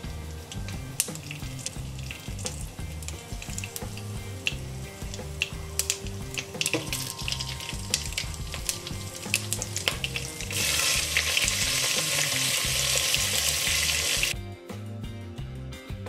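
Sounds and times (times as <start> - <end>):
loud dense sizzle: 0.0 - 14.4
spices crackling in hot oil: 0.0 - 14.4
background music with bass: 0.0 - 16.0.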